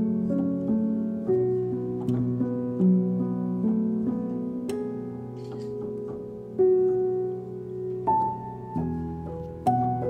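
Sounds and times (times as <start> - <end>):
gentle instrumental melody: 0.0 - 10.0.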